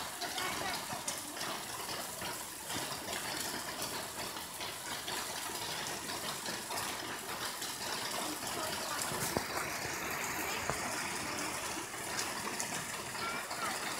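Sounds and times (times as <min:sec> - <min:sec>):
stream water rushing: 0:00.0 - 0:13.9.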